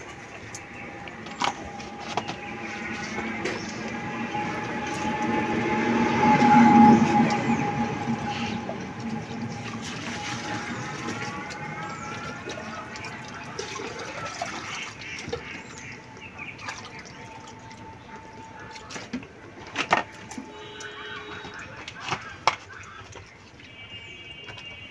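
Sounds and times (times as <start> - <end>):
water pouring into a container: 0.0 - 21.8.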